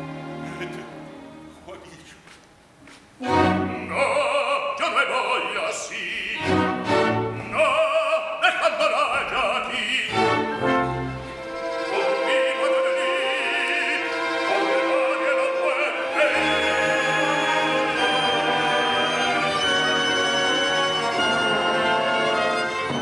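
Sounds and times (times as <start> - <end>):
heavy low orchestral chords: 0.0 - 2.2, 3.2 - 4.8, 5.6 - 8.1, 9.0 - 23.0
male opera singer with vibrato: 3.3 - 10.9, 11.7 - 23.0.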